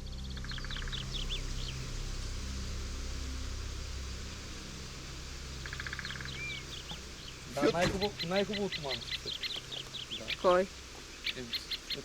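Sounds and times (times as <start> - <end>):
low hum and hiss: 0.0 - 12.0
songbird chirps: 0.0 - 12.0.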